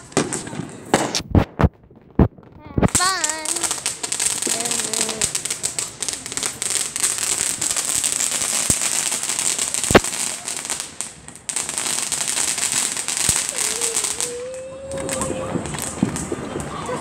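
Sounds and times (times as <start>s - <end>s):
firework bang: 0.0s - 17.0s
firework crackling: 0.0s - 17.0s.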